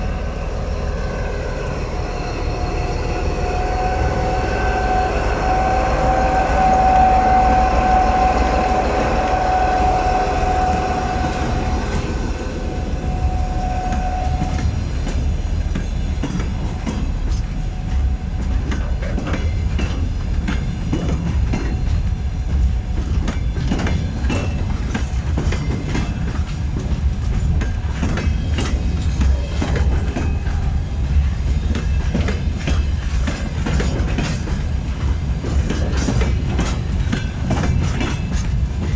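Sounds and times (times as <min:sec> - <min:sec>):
train low rumble: 0:00.0 - 0:38.9
train wheels clattering over joints: 0:06.6 - 0:38.9.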